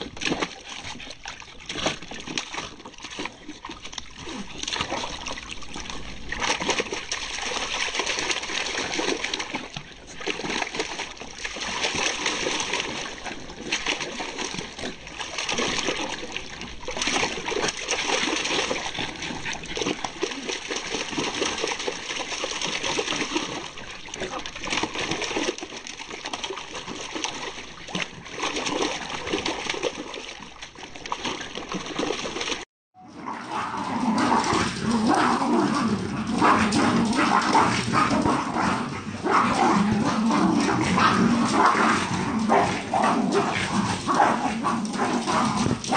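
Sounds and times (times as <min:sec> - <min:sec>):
water splashing in plastic tubs: 0:00.0 - 0:45.9.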